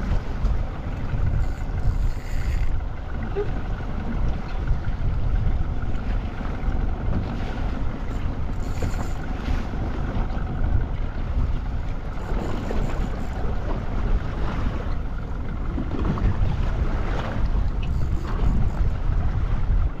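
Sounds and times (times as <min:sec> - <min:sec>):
sea and boat noise: 0:00.0 - 0:20.0
waves washing against hull: 0:00.0 - 0:20.0
wind buffeting microphone: 0:00.0 - 0:20.0.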